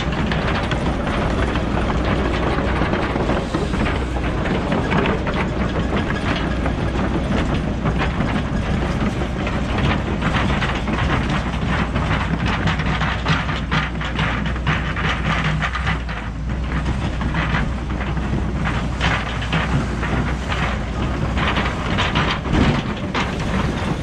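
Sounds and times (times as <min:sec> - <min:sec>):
excavator diesel engine running: 0:00.0 - 0:24.0
metallic clanking and scraping: 0:00.0 - 0:24.0.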